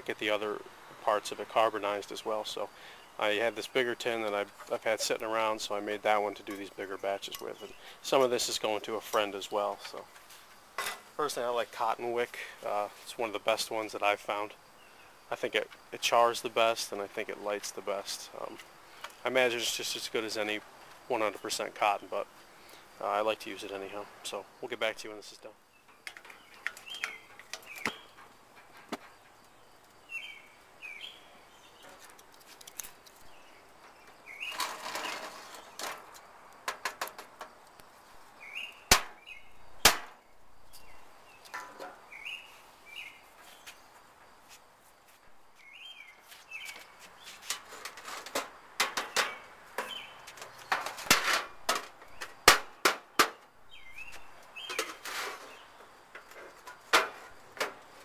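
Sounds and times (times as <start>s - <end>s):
small birds chirping: 0.0s - 36.6s, 37.6s - 47.9s, 49.0s - 51.0s, 52.0s - 52.8s, 53.6s - 56.7s.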